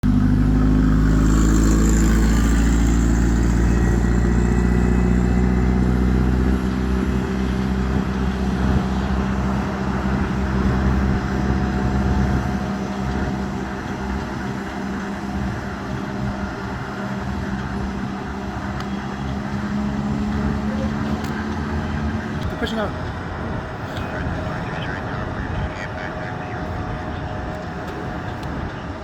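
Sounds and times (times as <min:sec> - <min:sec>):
diesel engine droning: 0:00.0 - 0:29.0
high whine: 0:00.0 - 0:29.0.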